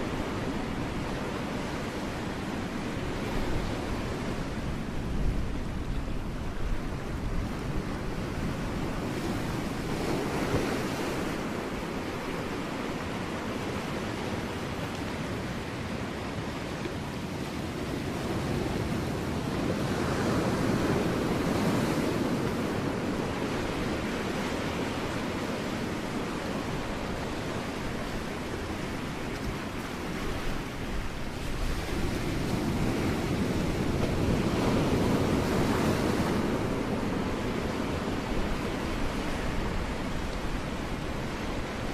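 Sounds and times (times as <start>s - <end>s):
ocean waves breaking on rocks: 0.0s - 41.9s.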